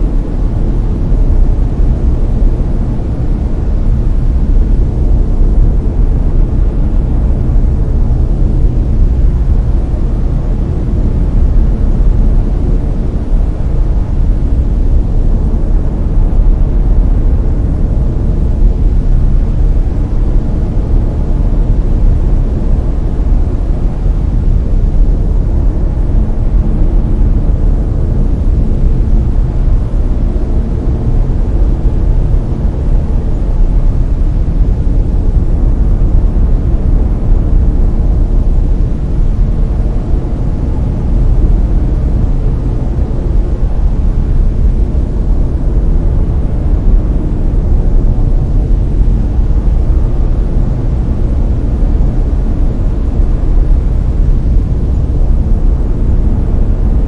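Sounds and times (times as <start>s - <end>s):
brown noise deep rumbling hiss: 0.0s - 57.0s.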